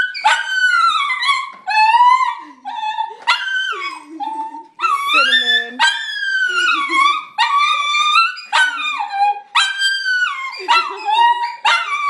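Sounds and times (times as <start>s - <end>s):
dog yelping whines: 0.0s - 12.0s.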